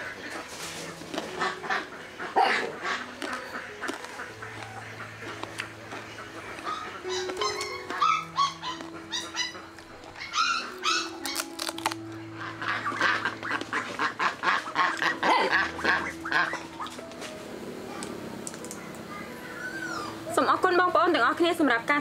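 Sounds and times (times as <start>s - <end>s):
background music with held notes: 0.0s - 22.0s.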